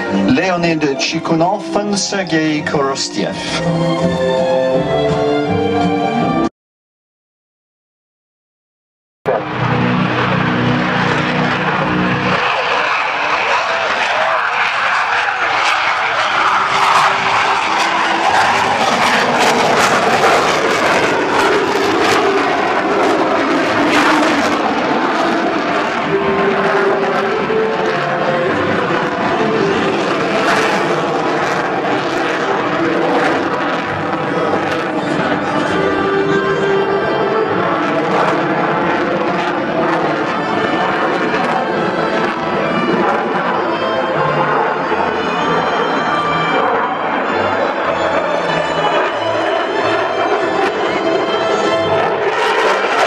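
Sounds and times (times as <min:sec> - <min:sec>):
aeroplane engines flying past: 0:00.0 - 0:06.5, 0:09.3 - 0:53.0.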